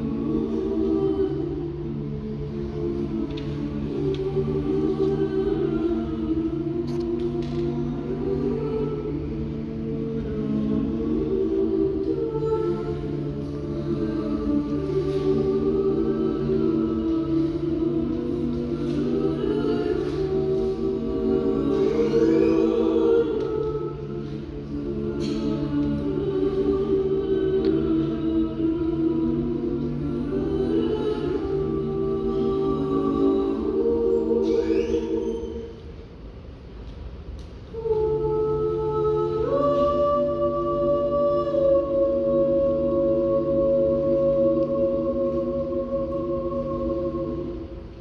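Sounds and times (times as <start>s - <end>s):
choir singing held chords: 0.0s - 48.0s.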